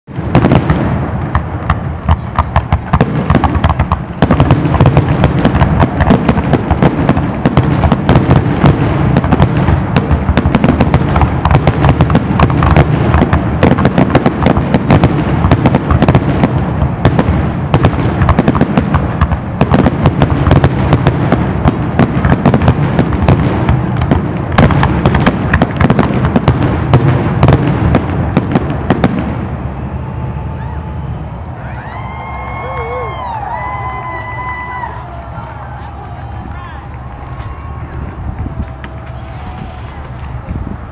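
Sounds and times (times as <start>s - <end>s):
fireworks barrage bangs and crackle: 0.0s - 40.9s.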